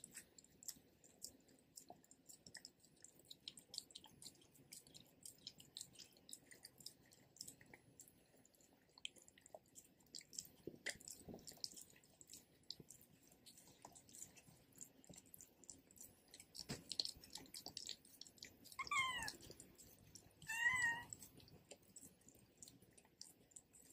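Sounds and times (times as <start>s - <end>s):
dog licking and chewing: 0.0s - 23.9s.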